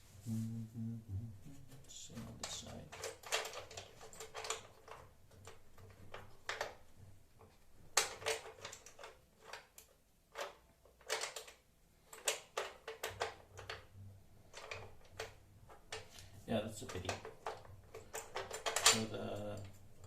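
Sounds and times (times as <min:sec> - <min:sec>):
parts clicking and knocking: 0:01.9 - 0:20.0.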